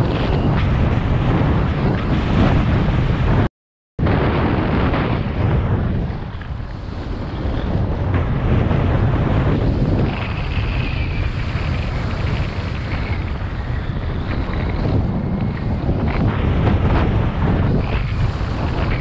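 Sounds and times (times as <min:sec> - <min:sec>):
snowboard scraping over snow: 0:00.0 - 0:03.4, 0:04.0 - 0:19.0
wind buffeting microphone: 0:00.0 - 0:19.0.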